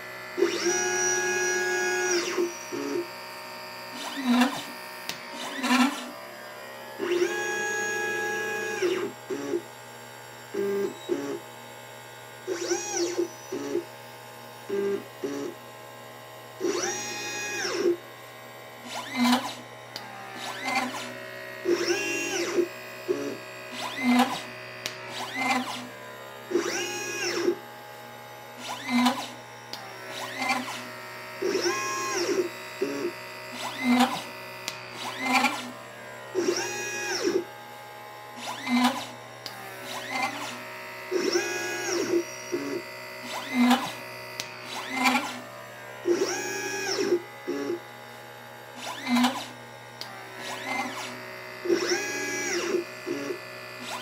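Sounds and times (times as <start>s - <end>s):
stepper motors whining: 0.0s - 11.5s, 12.4s - 14.0s, 16.6s - 18.1s, 18.7s - 54.0s.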